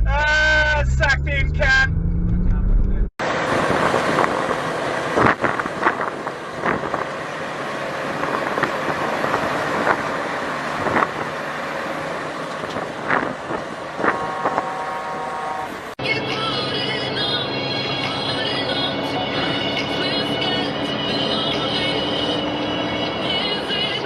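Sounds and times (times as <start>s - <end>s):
vehicle road noise rushing: 0.0s - 24.0s.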